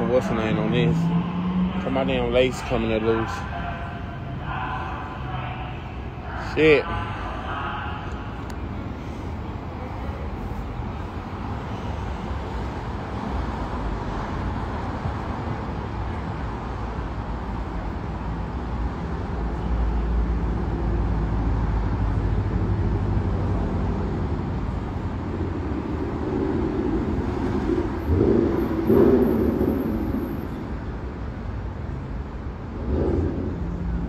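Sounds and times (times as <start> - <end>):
passing vehicles rumbling: 0.0 - 34.0
street noise: 0.0 - 34.0.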